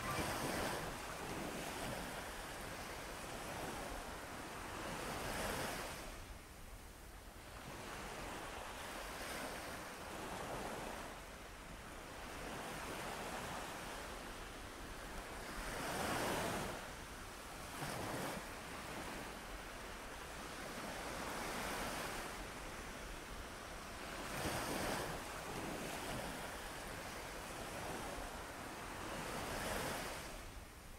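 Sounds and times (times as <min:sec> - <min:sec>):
ocean waves washing ashore: 0:00.0 - 0:30.9.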